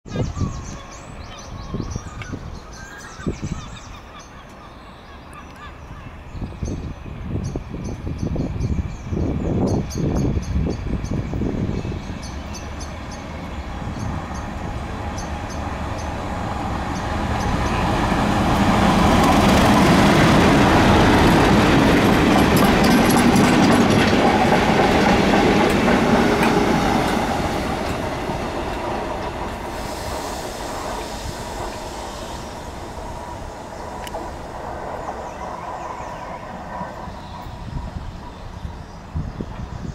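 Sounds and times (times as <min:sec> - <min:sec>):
diesel locomotive engine: 0:00.1 - 0:39.9
train wheels on rails: 0:06.7 - 0:39.9.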